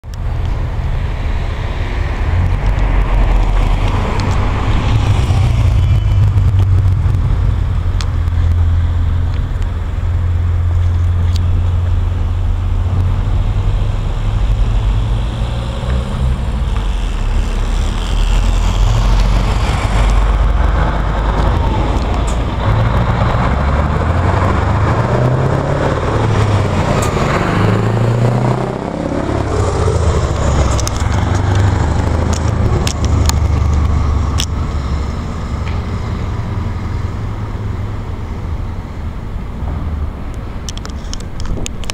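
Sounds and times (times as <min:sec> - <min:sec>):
passing traffic: 0:00.0 - 0:41.9
truck engine droning and revving: 0:00.0 - 0:41.9.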